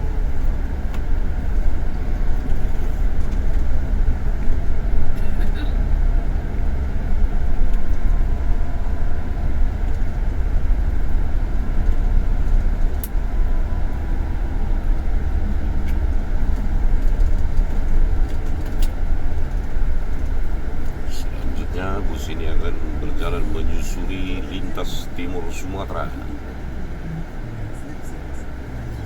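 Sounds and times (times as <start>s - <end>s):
coach engine and road rumble: 0.0s - 29.0s.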